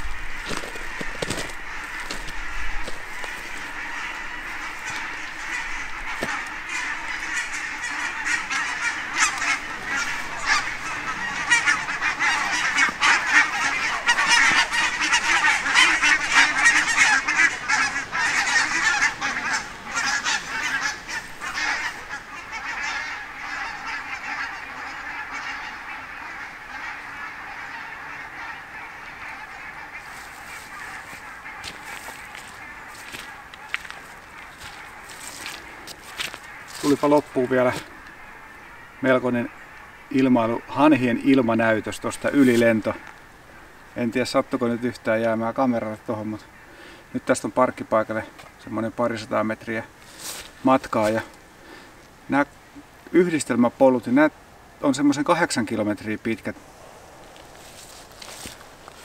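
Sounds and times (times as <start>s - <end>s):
geese honking: 0.0s - 59.0s.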